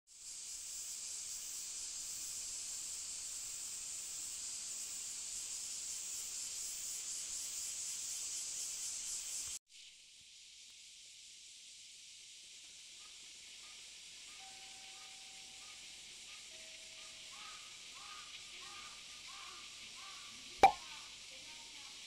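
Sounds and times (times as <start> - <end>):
high-pitched outdoor hiss: 0.1 - 22.0.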